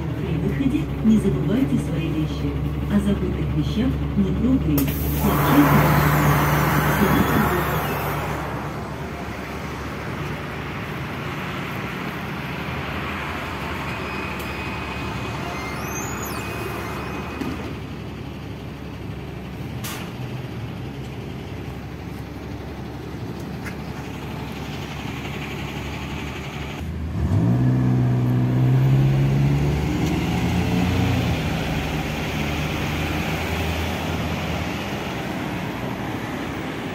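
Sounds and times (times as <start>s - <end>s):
bus engine idling: 0.0s - 27.1s, 30.3s - 36.9s
traffic noise: 0.0s - 36.9s
vehicle engine accelerating: 0.0s - 36.9s.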